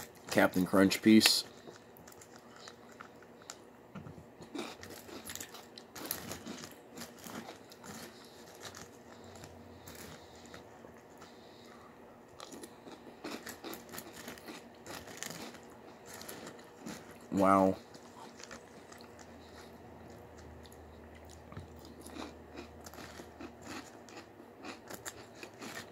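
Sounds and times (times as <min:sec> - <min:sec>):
person chewing crunchy cereal: 0:00.0 - 0:03.8, 0:04.4 - 0:25.9.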